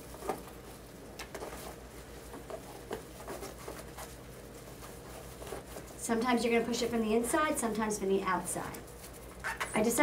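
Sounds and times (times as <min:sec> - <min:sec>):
faint plastic rustling: 0:00.0 - 0:10.0
low steady hum: 0:00.0 - 0:10.0.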